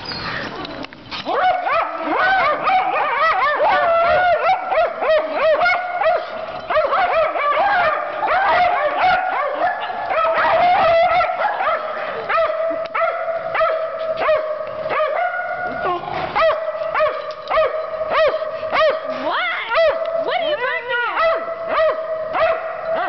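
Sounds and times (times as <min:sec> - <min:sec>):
small dogs barking and yipping: 0:00.0 - 0:23.0
dog howling: 0:01.3 - 0:20.3.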